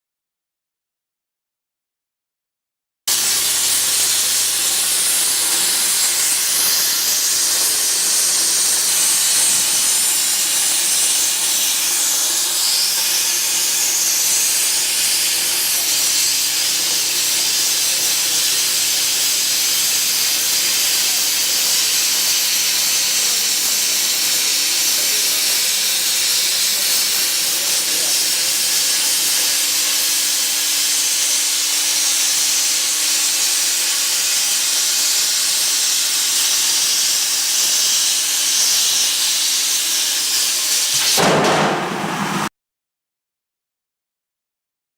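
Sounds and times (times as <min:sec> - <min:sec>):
plasma torch hissing: 0:03.1 - 0:42.5.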